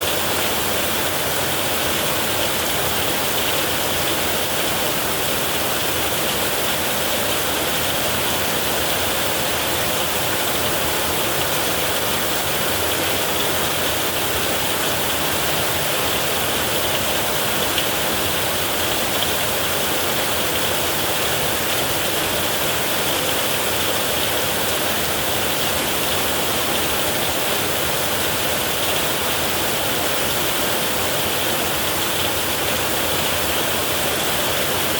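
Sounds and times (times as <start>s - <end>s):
heavy rain on a metal roof: 0.0s - 34.9s.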